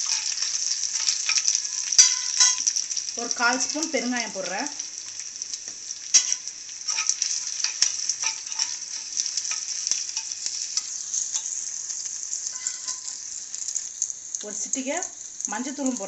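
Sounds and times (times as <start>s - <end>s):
sharp crackles and pops: 0.0s - 16.0s
spices sizzling in hot oil: 0.0s - 16.0s.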